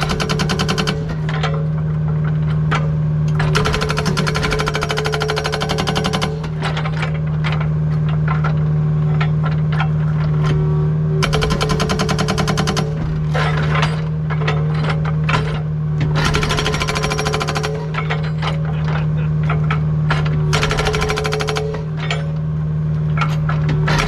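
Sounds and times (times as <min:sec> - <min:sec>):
diesel engine running: 0:00.0 - 0:24.0
hydraulic hammer pounding: 0:00.0 - 0:24.0.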